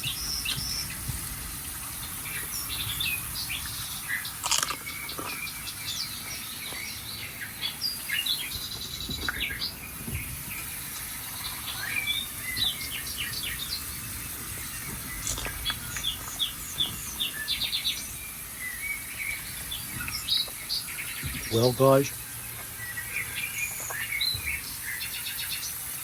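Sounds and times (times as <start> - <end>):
songbirds chirping: 0.0 - 26.0
steady high hiss: 0.0 - 26.0.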